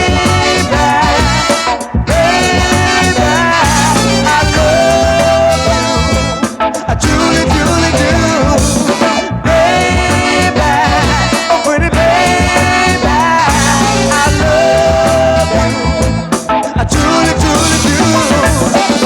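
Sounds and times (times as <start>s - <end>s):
instrumental soul band music: 0.0s - 19.0s.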